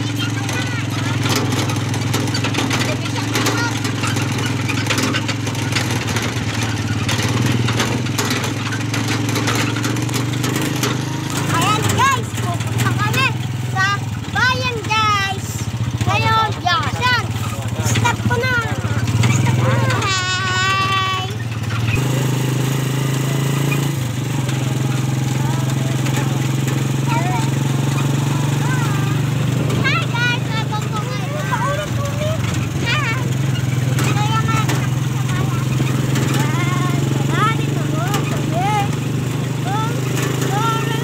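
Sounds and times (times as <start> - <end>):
small vehicle engine running: 0.0 - 41.0
vehicle body rattling on stones: 0.0 - 41.0.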